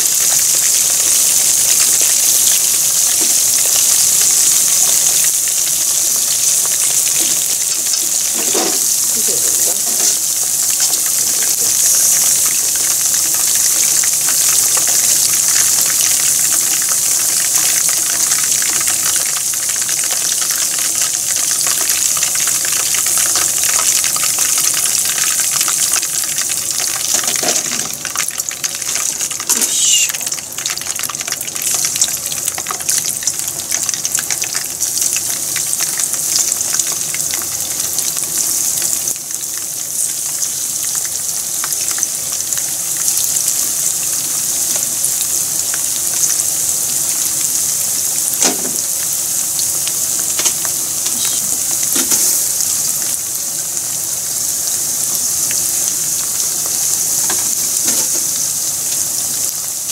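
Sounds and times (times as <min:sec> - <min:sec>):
hot oil sizzling and crackling: 0:00.0 - 0:59.9.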